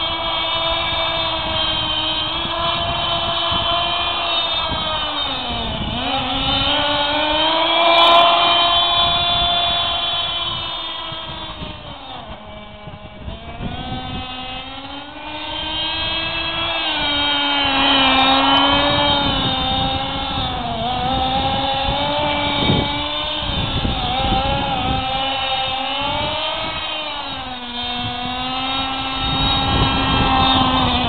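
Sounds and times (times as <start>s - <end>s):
small engine whining: 0.0s - 31.0s.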